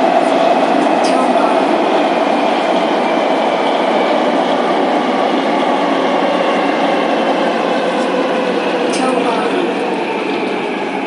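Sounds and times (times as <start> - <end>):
train wheels on rail: 0.0 - 11.0.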